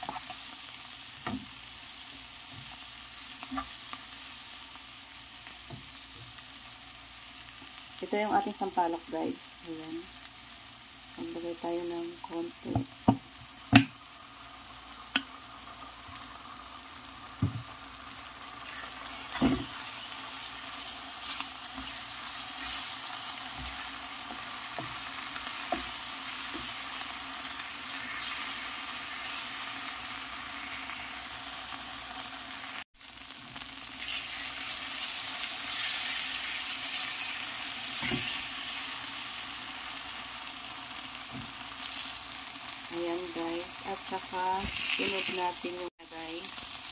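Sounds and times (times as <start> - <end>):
food sizzling in a frying pan: 0.0 - 46.9.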